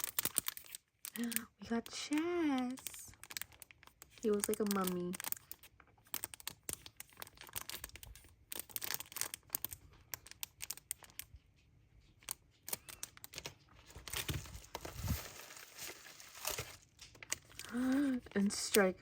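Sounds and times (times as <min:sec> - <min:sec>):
plastic packaging crinkling and tearing: 0:00.0 - 0:11.3, 0:12.2 - 0:19.0.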